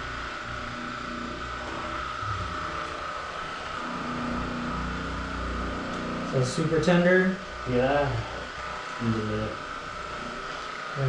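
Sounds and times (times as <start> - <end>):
mechanical hum with whine: 0.0 - 11.0.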